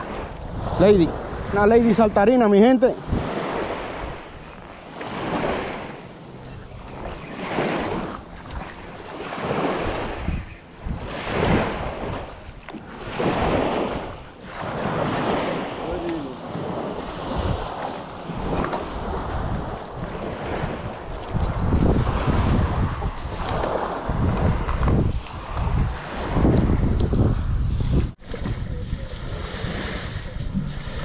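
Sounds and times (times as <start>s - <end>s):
waves washing: 0.0s - 27.4s, 28.1s - 31.0s
wind buffeting microphone: 0.0s - 31.0s.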